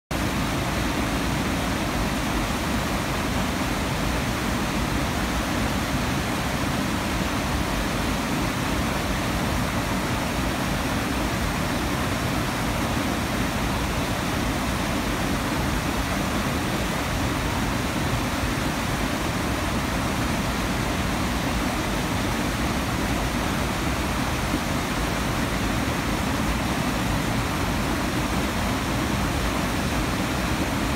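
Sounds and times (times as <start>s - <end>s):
water rushing over weir: 0.1s - 30.9s.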